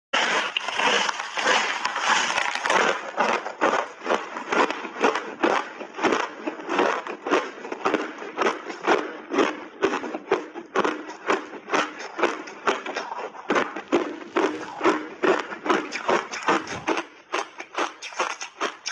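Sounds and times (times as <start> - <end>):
crunching ice being chewed: 0.2 - 18.9.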